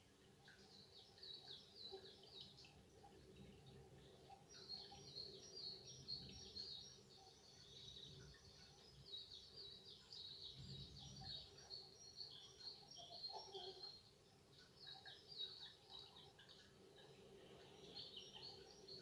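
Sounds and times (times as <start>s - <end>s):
small birds chirping and trilling: 0.0s - 19.0s.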